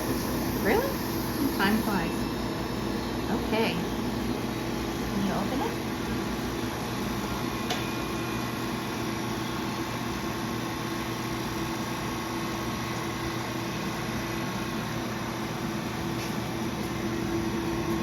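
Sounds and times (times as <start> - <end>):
laser cutter fans humming: 0.0 - 18.0.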